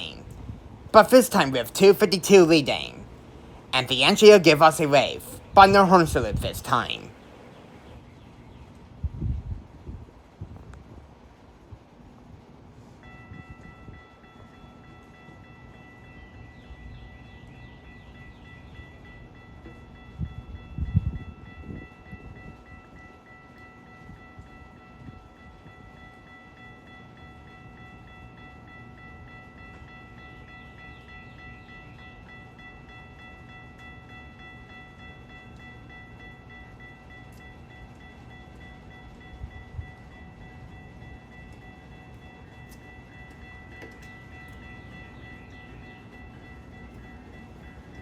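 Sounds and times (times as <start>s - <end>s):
train whine and rumble: 0.0s - 48.0s.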